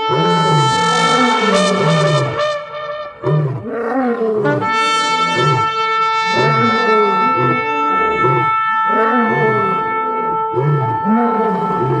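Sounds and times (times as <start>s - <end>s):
low short shofar blasts: 0.0s - 3.5s, 4.6s - 11.1s
shofar long high note: 0.0s - 3.6s, 4.6s - 12.0s.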